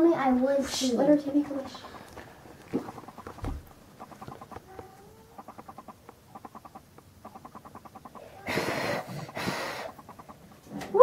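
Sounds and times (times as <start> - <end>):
faint animal clucking: 0.8 - 11.0.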